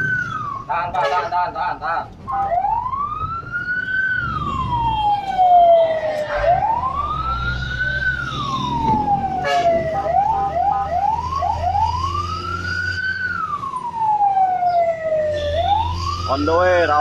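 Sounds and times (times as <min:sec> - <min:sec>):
fire truck siren wailing: 0:00.0 - 0:17.0.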